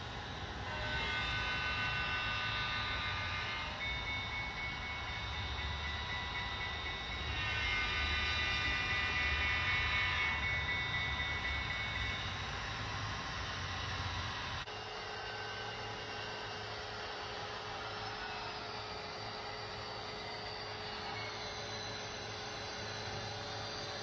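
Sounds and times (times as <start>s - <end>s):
model locomotive whine: 0.0s - 24.0s.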